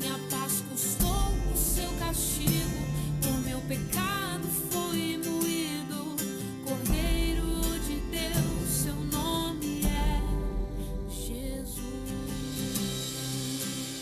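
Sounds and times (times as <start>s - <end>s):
acoustic guitar: 0.0s - 14.0s
woman singing gospel song: 0.0s - 14.0s.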